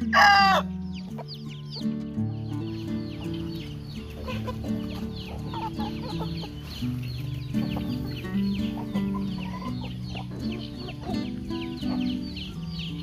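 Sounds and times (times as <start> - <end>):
background music low notes: 0.0 - 13.0
chickens clucking: 0.0 - 13.0
chicks peeping: 0.0 - 13.0.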